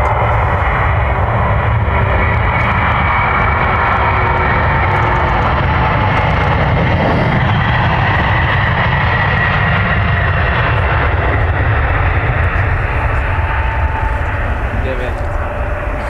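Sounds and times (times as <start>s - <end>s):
high engine whine: 0.0s - 16.0s
jet engines rumbling: 0.0s - 16.0s.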